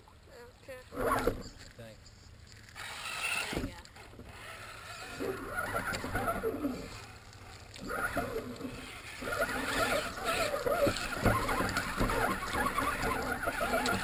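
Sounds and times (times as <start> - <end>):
electric motor whining: 0.9 - 1.6, 2.7 - 14.0.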